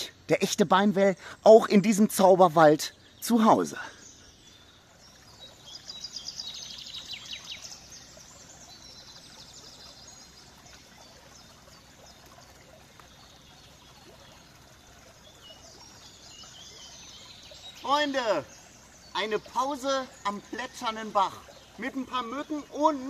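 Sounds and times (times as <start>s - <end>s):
songbird singing high notes: 0.0s - 11.5s, 15.2s - 23.0s
stream trickling and babbling: 0.0s - 23.0s.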